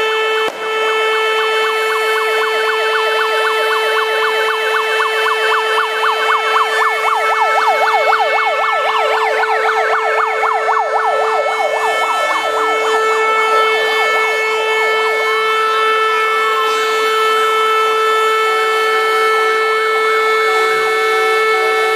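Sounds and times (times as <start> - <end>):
siren yelping: 0.0 - 21.9
steady siren tone: 0.0 - 21.9.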